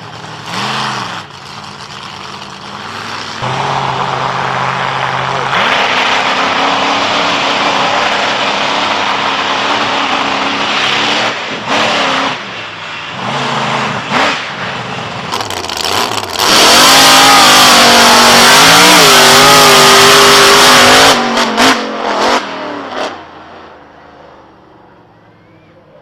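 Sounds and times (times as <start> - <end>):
racing engine revving: 0.0 - 23.7.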